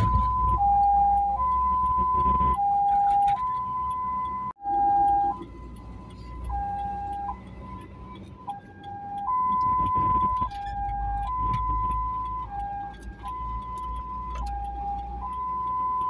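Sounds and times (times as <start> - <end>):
engine and road noise: 0.0 - 16.0
two-tone ambulance siren: 0.0 - 16.0.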